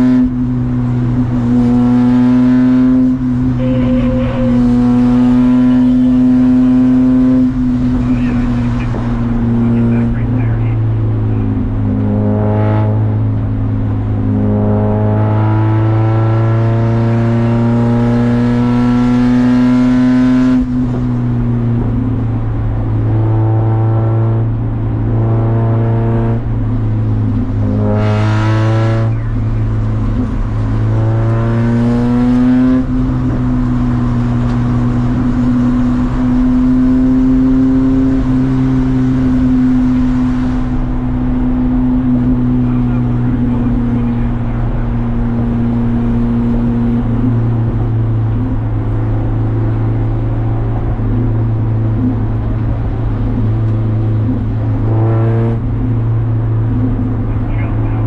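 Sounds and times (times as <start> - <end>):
race car engine accelerating: 0.0 - 58.0
steady low drone: 0.0 - 58.0.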